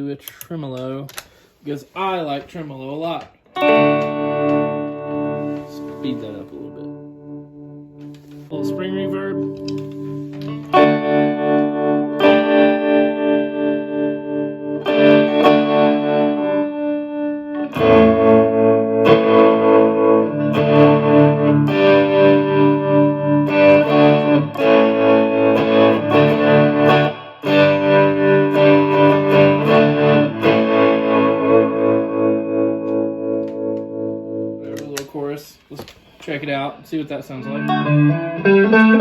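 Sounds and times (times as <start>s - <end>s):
electric guitar tremolo chords: 3.5s - 35.0s, 37.0s - 39.0s.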